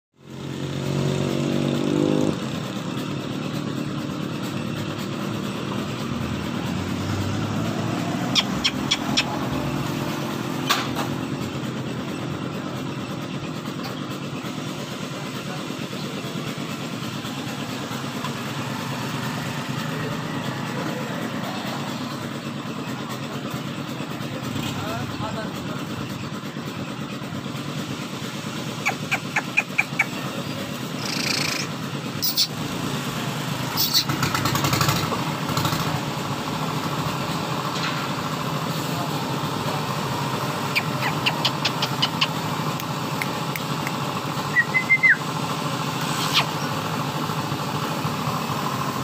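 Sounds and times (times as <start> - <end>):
engine running: 0.2 - 49.0.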